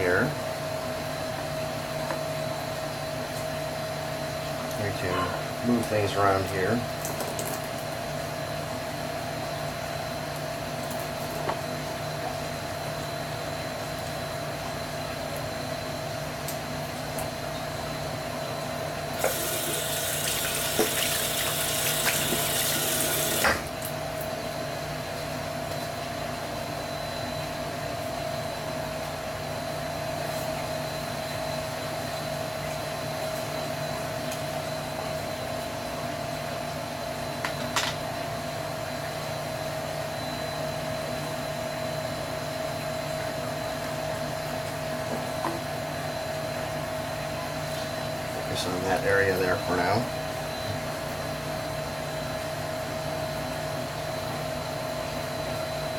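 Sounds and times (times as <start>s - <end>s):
steady machine hum: 7.8s - 37.6s, 38.5s - 55.9s.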